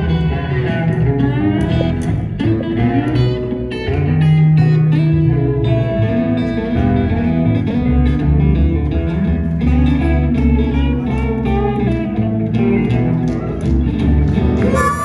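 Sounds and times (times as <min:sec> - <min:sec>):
electric and acoustic guitars: 0:00.0 - 0:15.0
upright bass line: 0:00.0 - 0:15.0.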